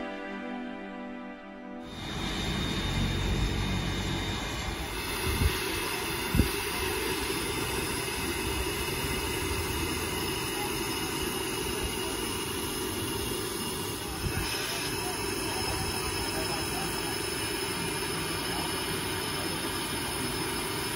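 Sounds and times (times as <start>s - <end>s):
steam locomotive hissing: 1.8s - 20.9s.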